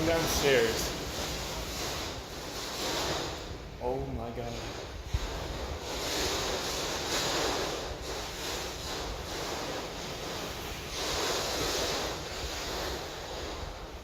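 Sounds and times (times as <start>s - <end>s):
wind rushing: 0.0s - 14.0s.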